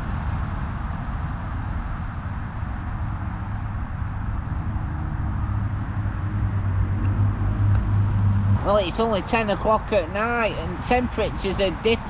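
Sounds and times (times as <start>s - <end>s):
low engine hum: 0.0s - 12.0s
traffic noise: 0.0s - 12.0s.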